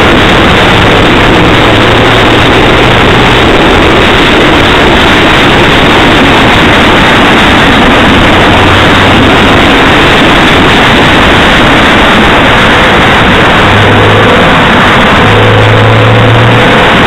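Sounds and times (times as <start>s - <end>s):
car engine hum: 0.0s - 17.0s
road and wind noise: 0.0s - 17.0s.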